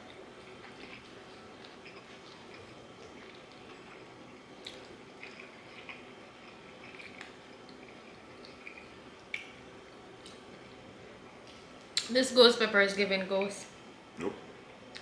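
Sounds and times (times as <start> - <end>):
chewing fried chicken: 0.0 - 12.1.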